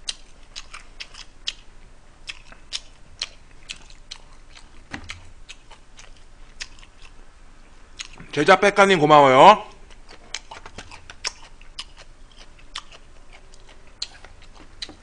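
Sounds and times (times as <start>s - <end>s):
man chewing food: 0.0s - 8.3s, 9.7s - 15.0s.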